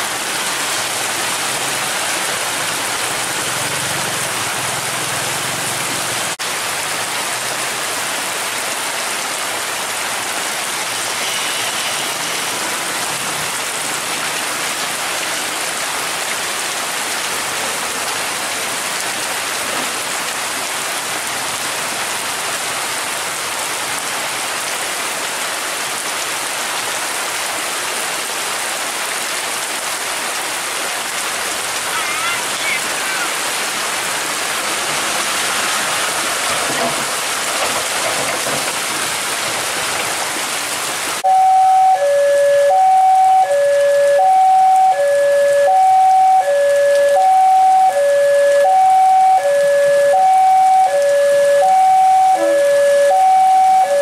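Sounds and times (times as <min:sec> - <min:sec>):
heavy rain on road and puddles: 0:00.0 - 0:54.0.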